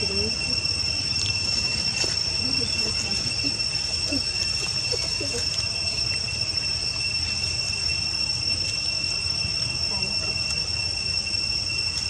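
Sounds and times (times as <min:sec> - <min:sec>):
constant low rumble: 0:00.0 - 0:12.0
faint wavering sounds: 0:00.0 - 0:12.0
high-pitched insect drone: 0:00.0 - 0:12.0.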